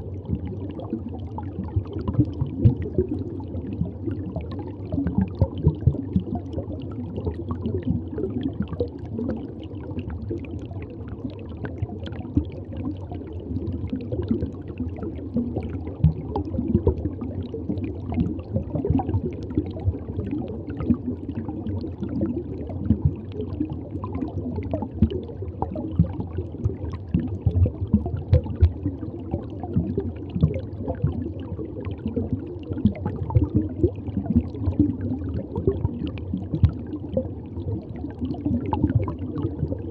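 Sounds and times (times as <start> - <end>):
aquarium water gurgling: 0.0 - 39.9.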